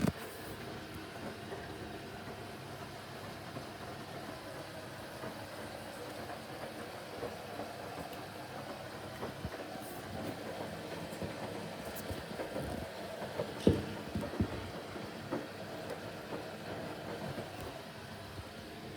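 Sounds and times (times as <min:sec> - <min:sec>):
washing machine churning: 0:00.0 - 0:18.9.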